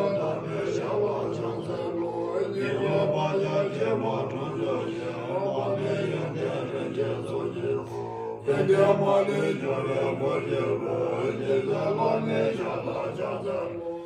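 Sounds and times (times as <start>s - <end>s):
monks chanting: 0.0s - 14.0s.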